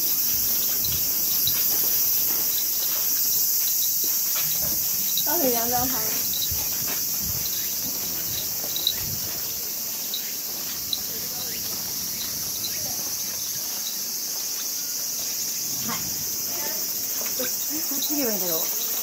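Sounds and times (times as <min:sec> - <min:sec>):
insect chorus drone: 0:00.0 - 0:19.0.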